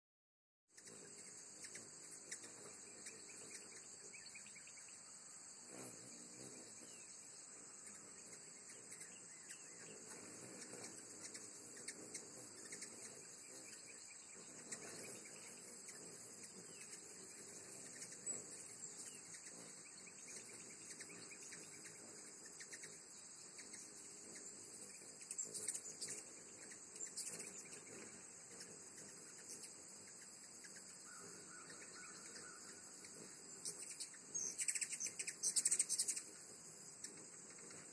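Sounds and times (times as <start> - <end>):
high-pitched insect chorus: 0.7 - 37.9.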